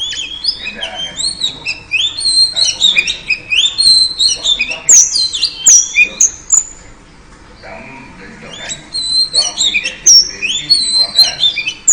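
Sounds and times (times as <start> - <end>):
bird whistled chirps: 0.0 - 6.8, 8.5 - 11.9.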